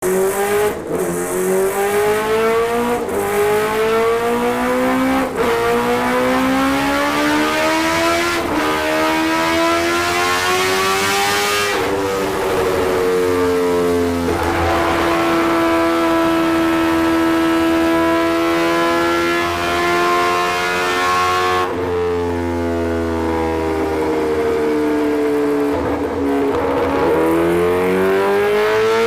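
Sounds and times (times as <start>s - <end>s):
engine accelerating through gears: 0.0s - 29.0s.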